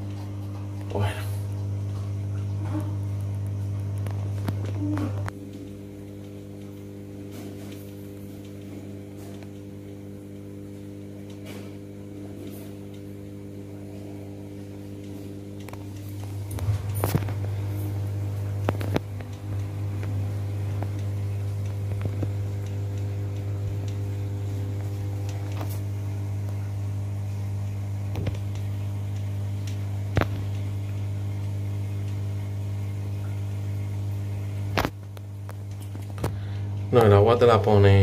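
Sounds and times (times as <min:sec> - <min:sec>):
aquarium equipment humming: 0:00.0 - 0:38.0.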